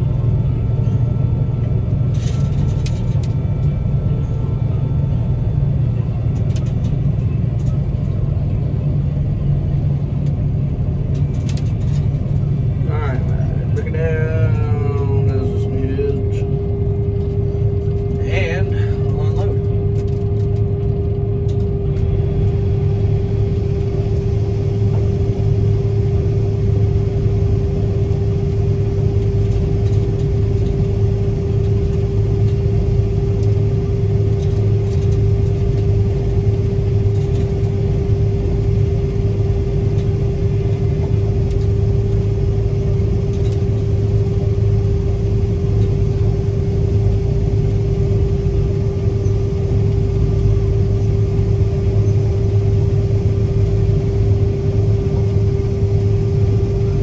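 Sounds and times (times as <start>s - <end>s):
combine harvester drone: 0.0s - 57.0s
steady whine: 0.0s - 57.0s.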